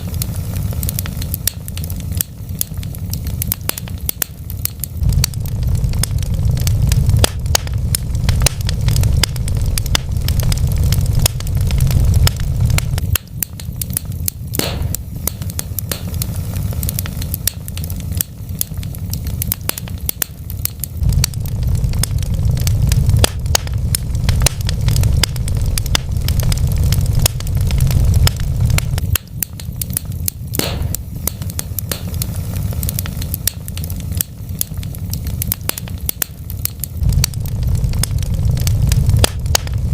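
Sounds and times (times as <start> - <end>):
loud snap of fire: 0.0 - 39.9
wood fire crackling: 0.0 - 39.9.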